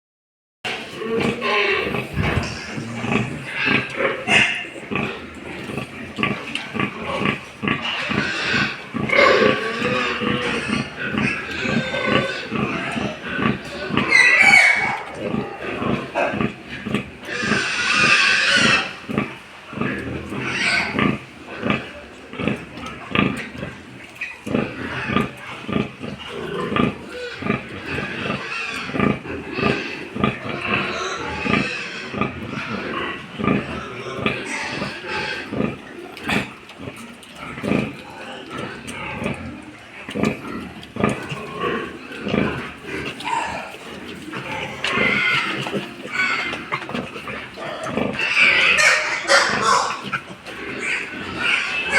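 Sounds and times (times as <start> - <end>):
pig squealing: 0.7 - 19.1, 20.1 - 21.9, 23.6 - 36.5, 40.2 - 51.9
pigs grunting: 0.7 - 51.9.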